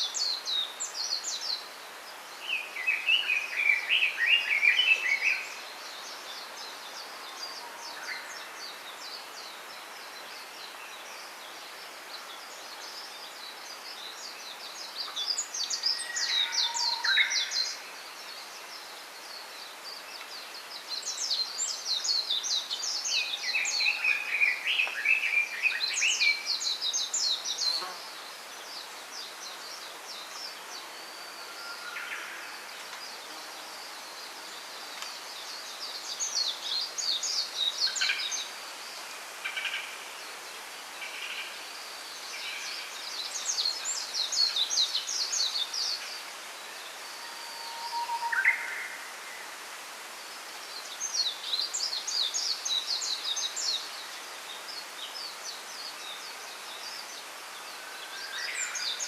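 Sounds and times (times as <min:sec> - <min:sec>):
faint background hiss: 0:00.0 - 0:59.0
lower bird chirping: 0:00.0 - 0:59.0
songbirds twittering: 0:00.0 - 0:59.0.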